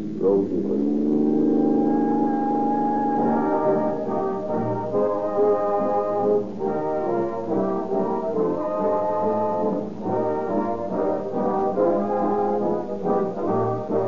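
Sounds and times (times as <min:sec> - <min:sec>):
orchestral brass chords: 0:00.2 - 0:14.0.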